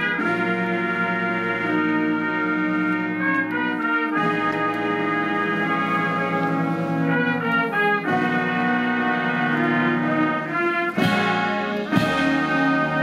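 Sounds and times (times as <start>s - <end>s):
brass ensemble playing solemn chords: 0.0s - 13.0s.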